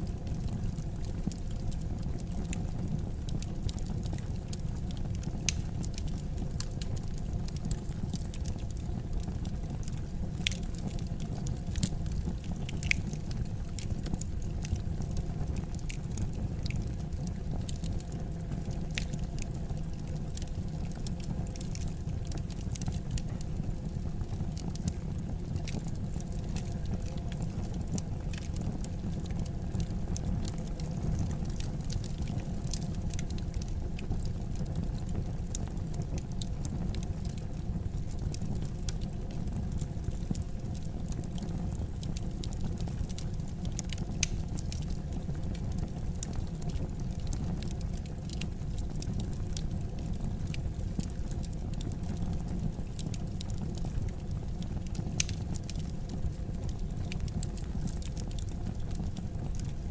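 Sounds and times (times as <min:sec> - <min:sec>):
fire rumbling in fireplace: 0:00.0 - 0:59.9
fire popping and snapping: 0:00.1 - 0:59.9.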